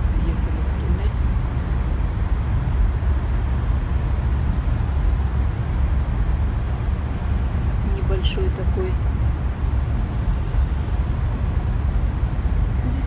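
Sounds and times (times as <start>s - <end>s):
car road noise from inside: 0.0s - 13.0s.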